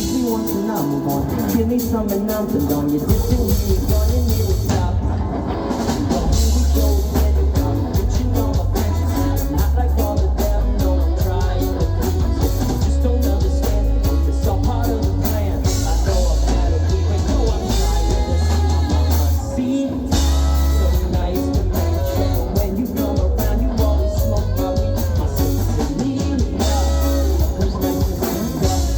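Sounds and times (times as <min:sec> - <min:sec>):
bass guitar: 0:00.0 - 0:28.9
drum kit: 0:00.0 - 0:28.9
electric guitar: 0:00.0 - 0:28.9
person singing: 0:00.0 - 0:28.9.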